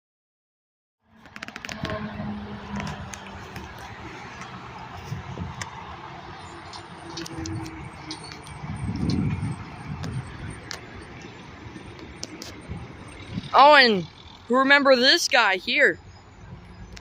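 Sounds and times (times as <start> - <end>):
heavy vehicle approaching: 1.1 - 17.0
vehicle engines running: 1.1 - 17.0.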